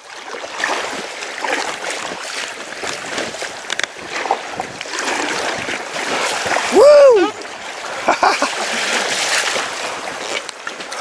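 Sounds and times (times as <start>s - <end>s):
paddle splashes: 0.0s - 11.0s
water lapping against a kayak: 0.0s - 11.0s.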